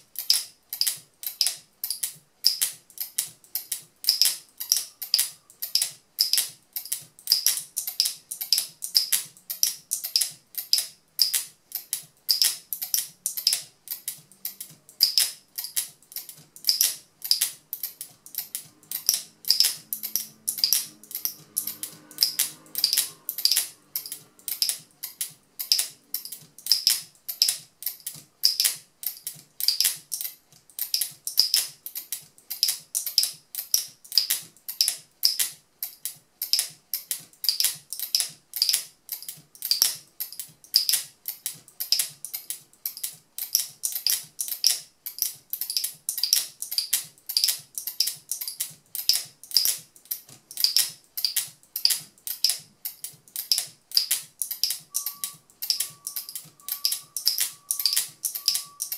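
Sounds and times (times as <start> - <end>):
sharp mechanism clicks: 0.0 - 58.9.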